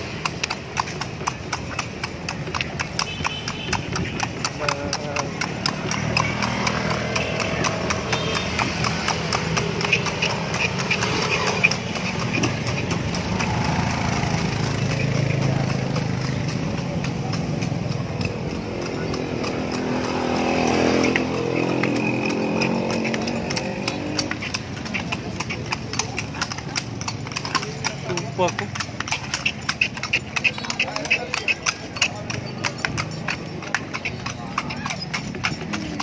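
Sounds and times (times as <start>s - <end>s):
horse hooves clip-clopping on pavement: 0.0s - 36.0s
passing motor traffic hum: 0.0s - 36.0s.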